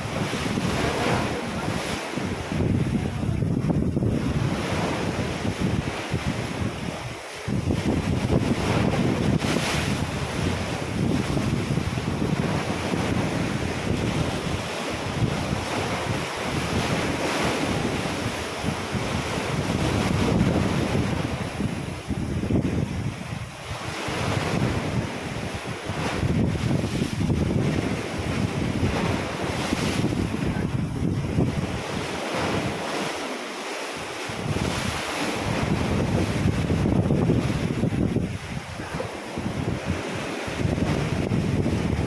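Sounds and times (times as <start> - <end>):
wind buffeting microphone: 0.0 - 33.3, 33.9 - 42.0
ocean waves splashing: 0.0 - 42.0.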